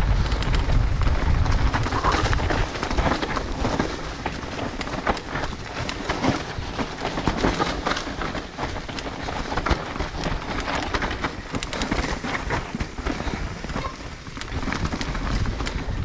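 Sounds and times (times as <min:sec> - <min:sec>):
bike knocking and rattling: 0:00.0 - 0:16.0
bike tyres crackling through leaves: 0:00.0 - 0:16.0.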